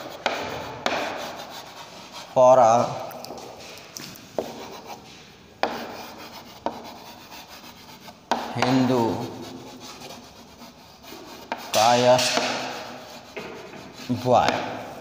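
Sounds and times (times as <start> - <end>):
chalk tapping on board: 0.0 - 2.3, 4.4 - 15.0
chalk scratching on blackboard: 0.0 - 3.8, 4.4 - 15.0.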